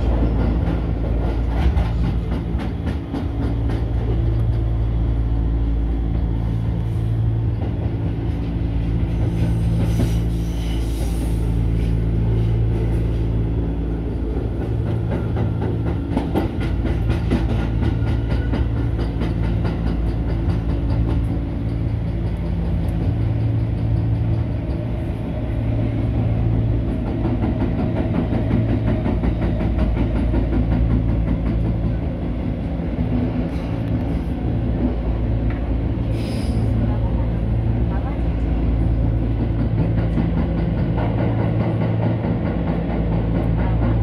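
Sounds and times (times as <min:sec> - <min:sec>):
fast clicks of train: 0:00.0 - 0:44.0
subway train rumbling: 0:00.0 - 0:44.0.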